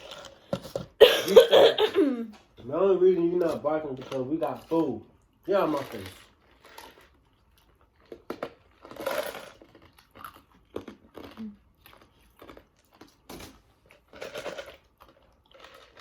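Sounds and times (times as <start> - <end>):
chewing and crunching: 0.0 - 1.0, 2.3 - 16.0.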